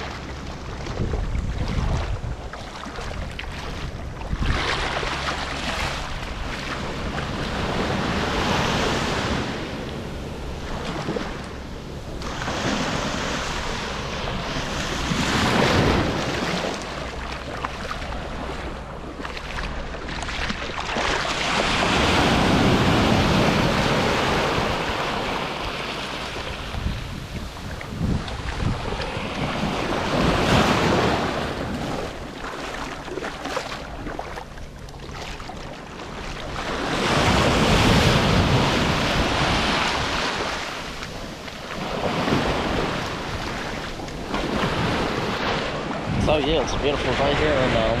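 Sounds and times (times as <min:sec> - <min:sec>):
surf breaking on a beach: 0:00.0 - 0:34.4, 0:35.4 - 0:48.0
wind on microphone: 0:00.0 - 0:48.0.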